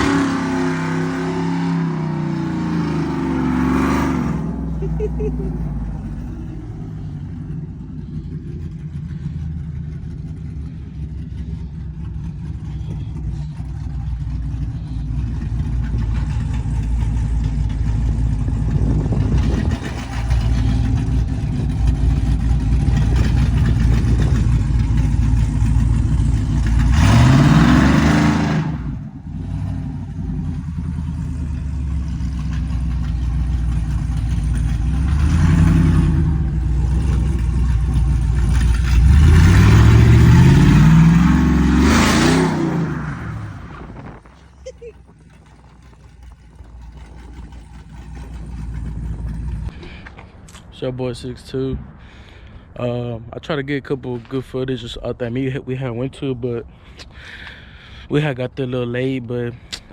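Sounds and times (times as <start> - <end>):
car engine revving: 0.0 - 52.2
car engines idling: 0.0 - 59.9.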